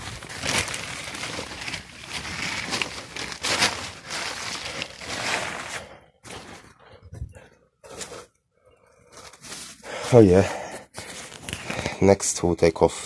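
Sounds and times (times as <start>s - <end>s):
plastic tarpaulin rustling: 0.0s - 8.3s, 9.1s - 10.4s, 11.0s - 12.1s.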